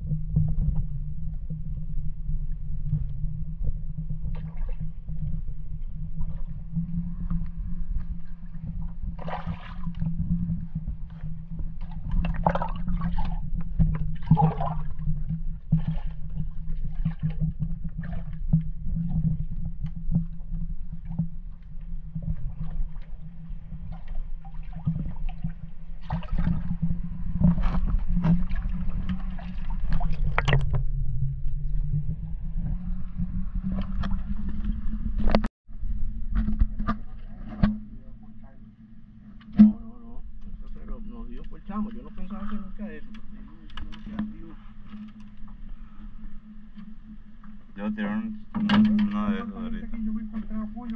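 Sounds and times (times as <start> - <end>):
low hum: 0.0 - 50.9
muffled gurgling water: 0.0 - 50.9.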